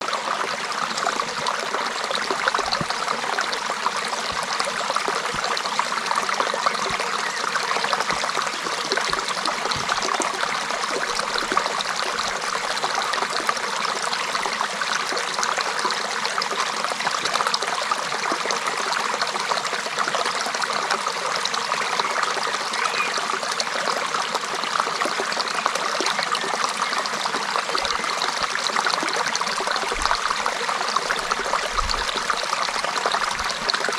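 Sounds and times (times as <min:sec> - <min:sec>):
creek water running over stones: 0:00.0 - 0:33.9.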